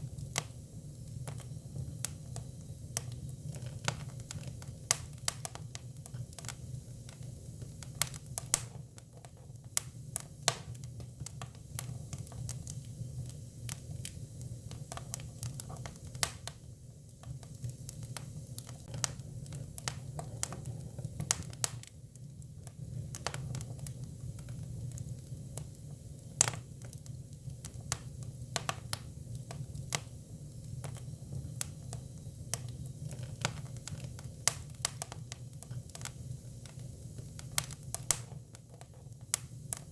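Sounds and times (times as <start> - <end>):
firewood burning and crackling: 0.0 - 39.9.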